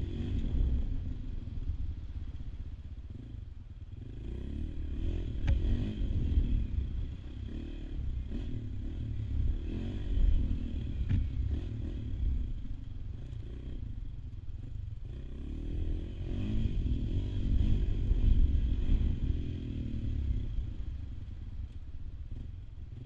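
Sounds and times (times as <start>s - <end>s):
motorcycle engine revving: 0.0s - 1.6s, 2.9s - 23.0s.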